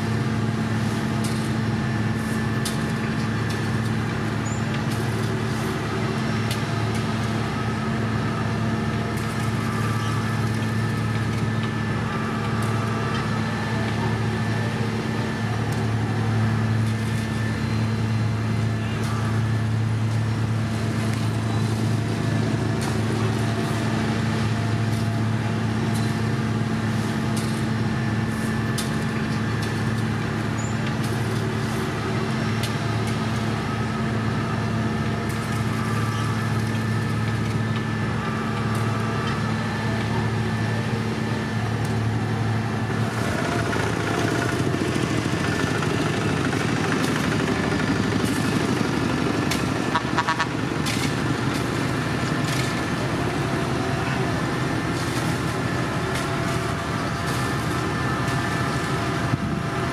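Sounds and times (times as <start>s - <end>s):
diesel truck engines humming: 0.0s - 59.9s
road machinery engine: 0.0s - 59.9s.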